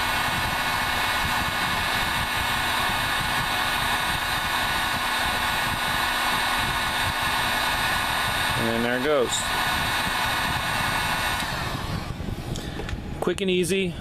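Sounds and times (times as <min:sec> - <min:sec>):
heat gun blowing air: 0:00.0 - 0:12.9.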